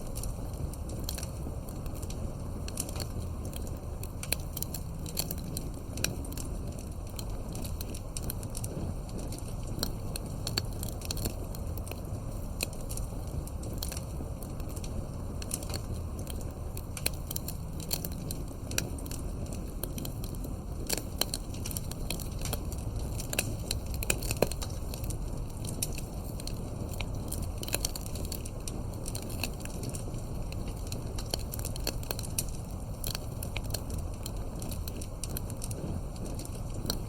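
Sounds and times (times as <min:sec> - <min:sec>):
fireplace crackling and popping: 0:00.0 - 0:37.0
steady low rumble: 0:00.0 - 0:37.0.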